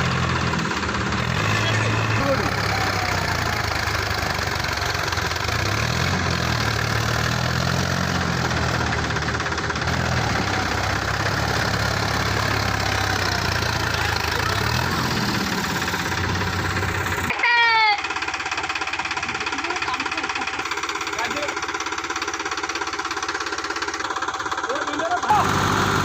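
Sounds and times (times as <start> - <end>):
tractor diesel engine revving: 0.0 - 26.0.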